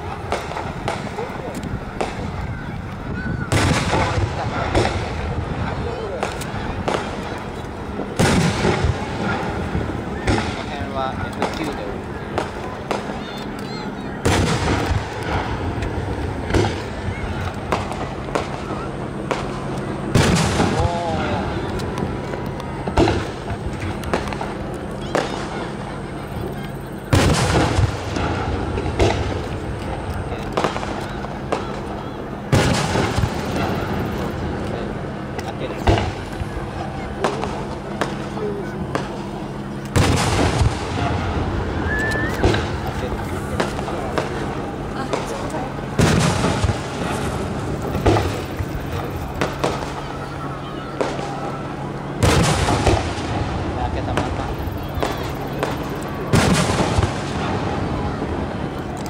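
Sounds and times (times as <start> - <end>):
firework shells booming: 0.0 - 59.0.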